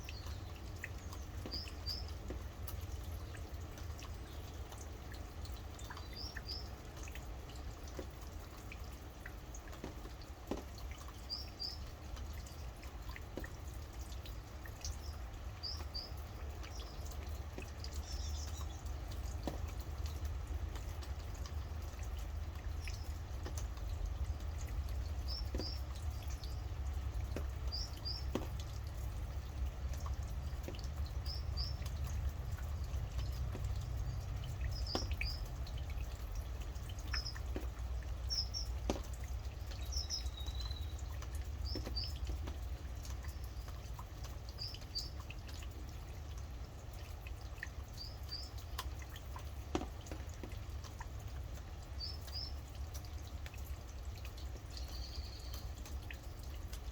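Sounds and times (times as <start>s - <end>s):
rain dripping: 0.0s - 56.9s.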